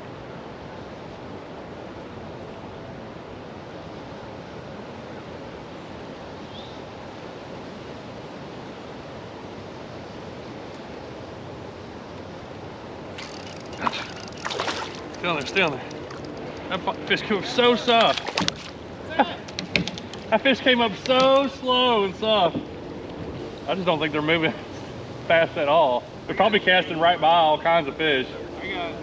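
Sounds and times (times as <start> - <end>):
creek water rushing: 0.1 - 29.0.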